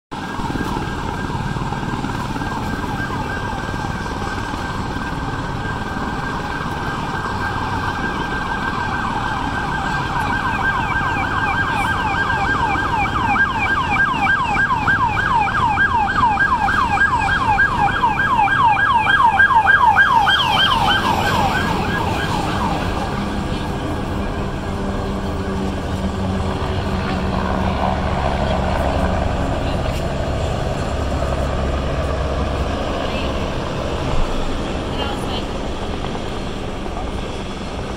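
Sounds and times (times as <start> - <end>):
emergency siren yelping: 0.1 - 37.9.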